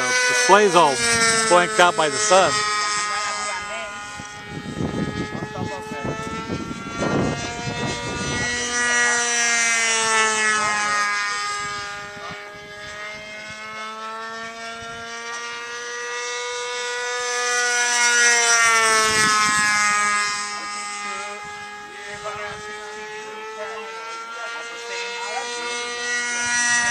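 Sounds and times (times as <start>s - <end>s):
model airplane engine passing: 0.0s - 26.9s.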